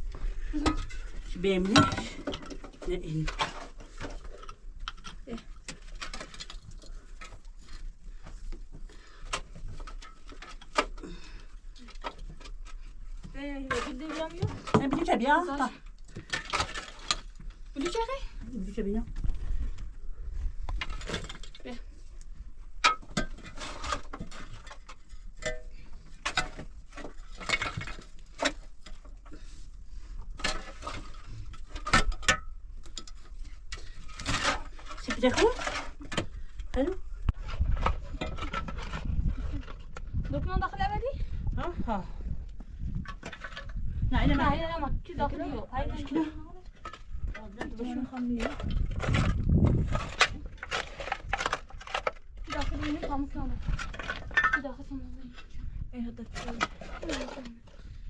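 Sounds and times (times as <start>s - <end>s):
objects knocking and clattering: 0.1s - 18.5s, 20.6s - 21.9s, 22.6s - 29.5s, 30.2s - 40.9s, 42.6s - 44.1s, 45.4s - 55.4s.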